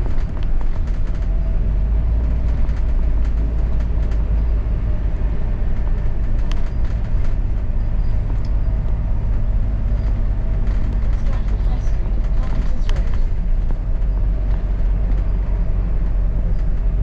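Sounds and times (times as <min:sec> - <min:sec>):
bus engine rumble: 0:00.0 - 0:17.0
small rattles and clicks: 0:00.0 - 0:17.0.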